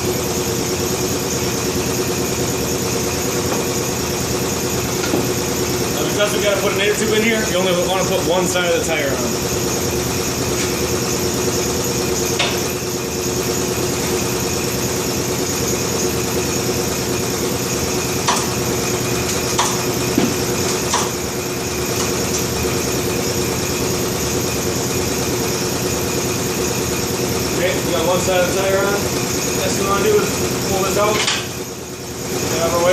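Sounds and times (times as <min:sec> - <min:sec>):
machine droning: 0:00.0 - 0:32.9.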